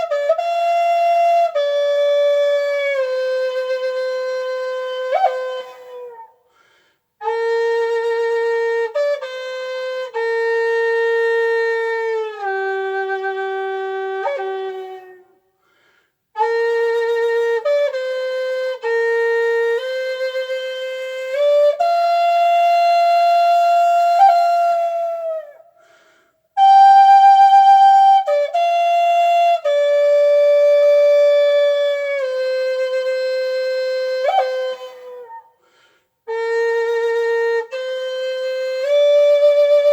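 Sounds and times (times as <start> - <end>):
solo flute melody: 0.0 - 6.6, 7.2 - 15.6, 16.3 - 39.9.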